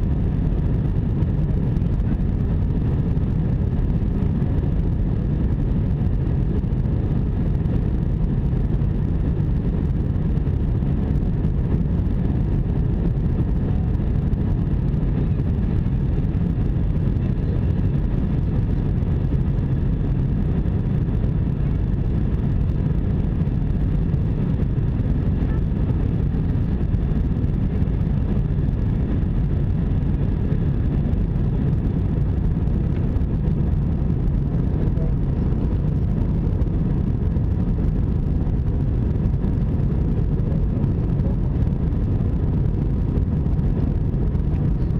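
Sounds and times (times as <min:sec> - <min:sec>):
faint steady whine: 0:00.0 - 0:44.9
jet engine cabin rumble: 0:00.0 - 0:44.9.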